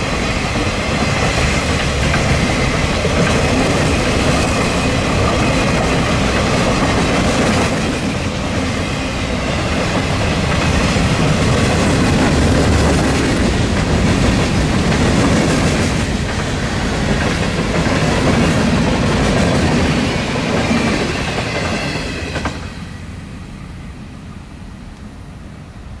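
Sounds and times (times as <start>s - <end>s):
freight train wheels clattering: 0.0s - 22.7s.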